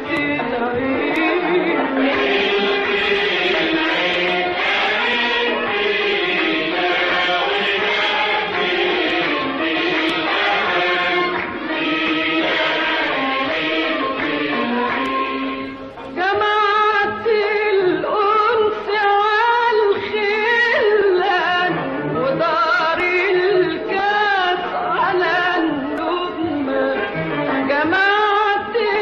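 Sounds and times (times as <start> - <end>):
person singing: 0.0 - 29.0.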